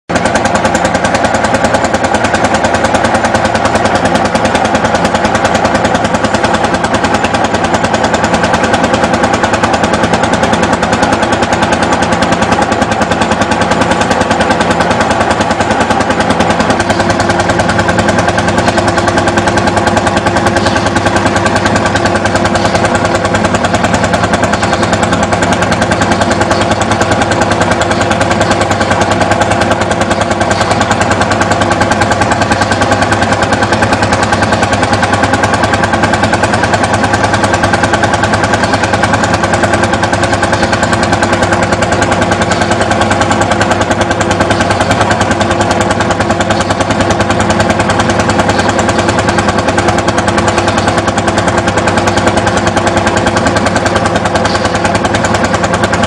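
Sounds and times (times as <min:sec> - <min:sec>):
tractor engine rapid beat: 0:00.0 - 0:56.0
threshing machine hum: 0:00.1 - 0:56.0.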